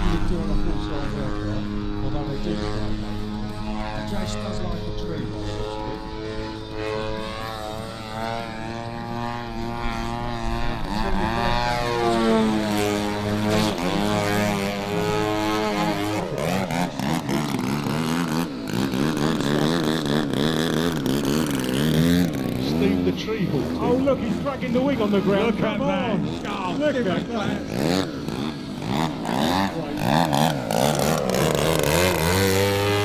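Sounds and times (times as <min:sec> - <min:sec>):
model plane engine drone: 0:00.0 - 0:33.0.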